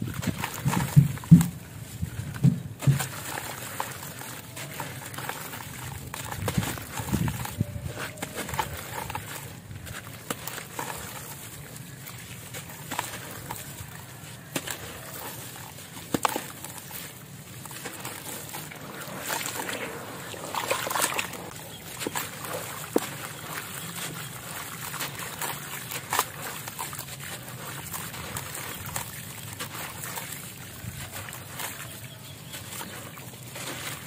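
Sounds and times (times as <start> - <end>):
grit splashing into water: 0.0 - 34.0
wet concrete crumbling by hand: 0.0 - 34.0.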